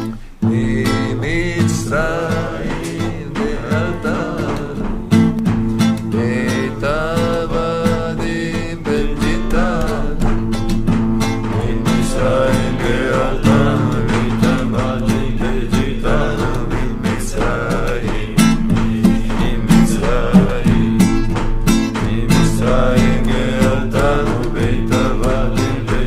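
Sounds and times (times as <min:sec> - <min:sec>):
men singing: 0:00.0 - 0:26.0
strummed acoustic guitar: 0:00.0 - 0:26.0.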